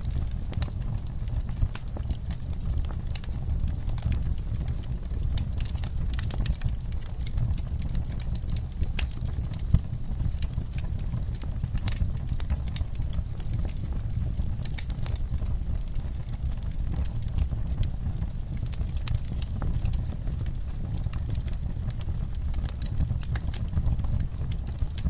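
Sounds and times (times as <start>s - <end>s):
fire popping: 0.0s - 25.0s
rain rumble: 0.0s - 25.0s
wood fire crackling: 0.0s - 25.0s.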